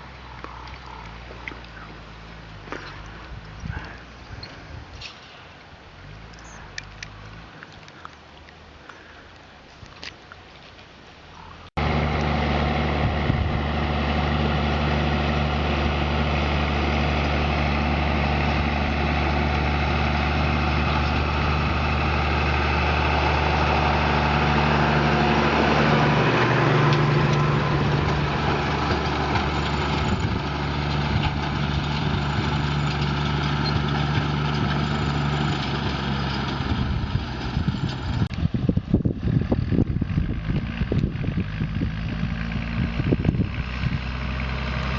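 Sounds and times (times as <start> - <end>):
diesel engine running: 0.0 - 5.0, 11.7 - 44.9.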